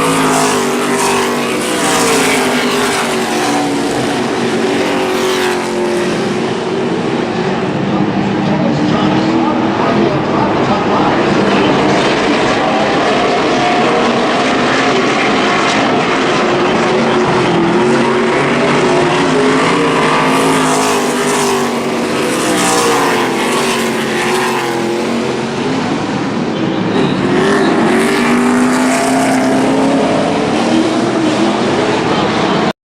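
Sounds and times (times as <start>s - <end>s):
race truck engines passing: 0.0s - 32.7s.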